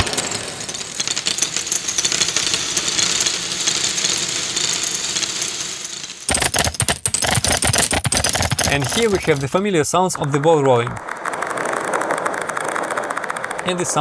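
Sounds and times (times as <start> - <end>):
crackling rattle of rapid clicks: 0.0 - 14.0.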